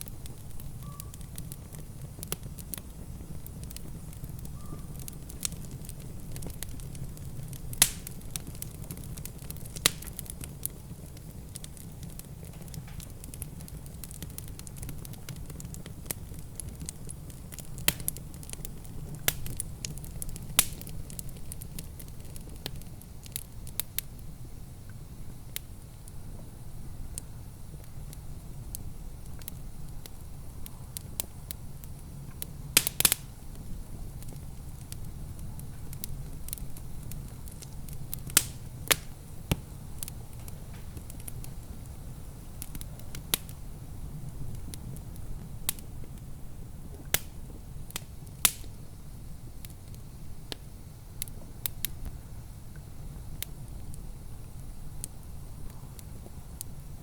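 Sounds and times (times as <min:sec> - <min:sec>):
sharp pops from fire: 0:00.0 - 0:52.2, 0:52.8 - 0:57.0
wood fire crackling: 0:00.0 - 0:57.0.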